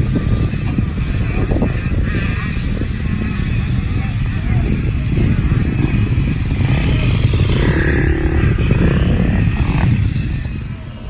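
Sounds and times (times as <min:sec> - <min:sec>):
two-stroke dirt bike engine running: 0:00.0 - 0:11.0.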